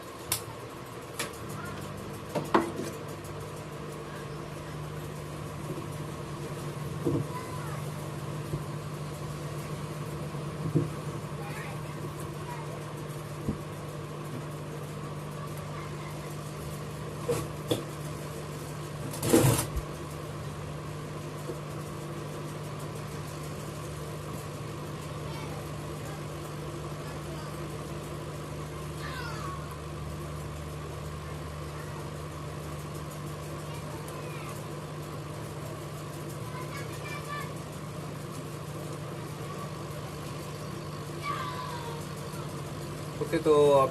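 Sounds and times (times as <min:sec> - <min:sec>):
hot-air station blowing: 0:00.0 - 0:43.9.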